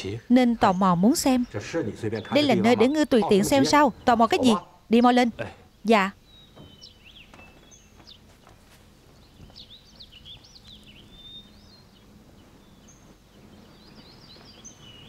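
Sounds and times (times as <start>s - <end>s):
faint birdsong: 0.0s - 15.0s
outdoor background noise: 0.0s - 15.0s.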